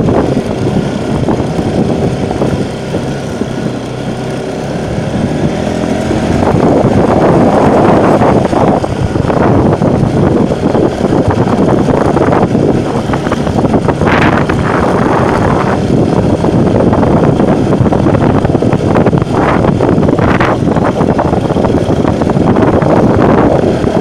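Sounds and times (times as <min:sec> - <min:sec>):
motorcycle engine climbing: 0:00.0 - 0:24.0
wind buffeting on microphone: 0:00.0 - 0:24.0.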